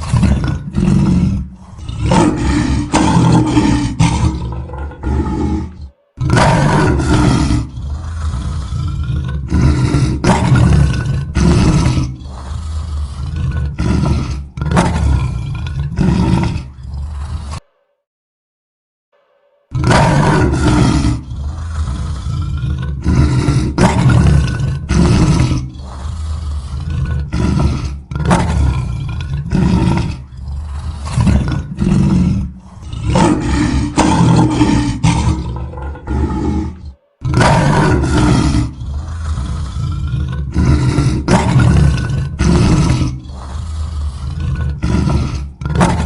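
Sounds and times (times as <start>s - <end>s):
lion roaring: 0.0s - 18.0s, 19.2s - 46.0s.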